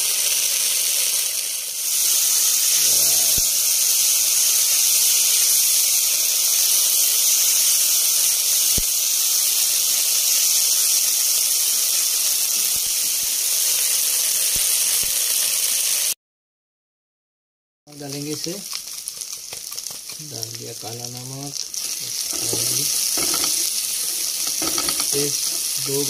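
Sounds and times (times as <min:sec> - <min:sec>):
meat sizzling in a pan: 0:00.0 - 0:16.2, 0:17.9 - 0:26.0.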